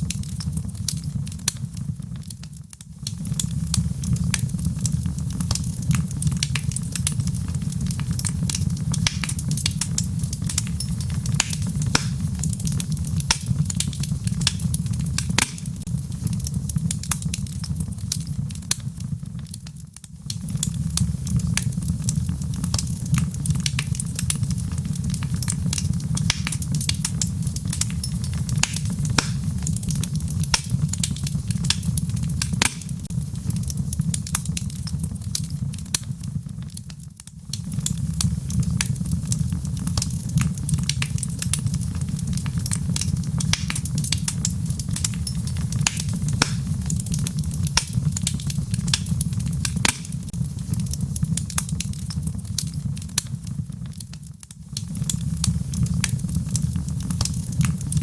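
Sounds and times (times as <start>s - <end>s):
burning logs crackling and popping: 0.0s - 58.0s
low rumble of flames: 0.0s - 58.0s.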